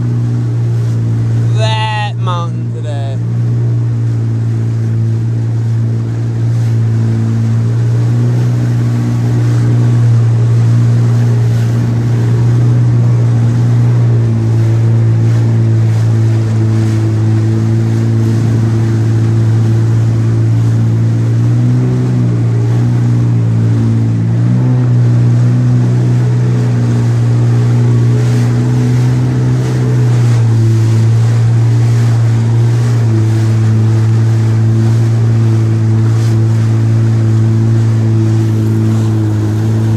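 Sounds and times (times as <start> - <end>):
jet ski engine running: 0.0 - 39.9
water rushing past hull: 0.0 - 39.9.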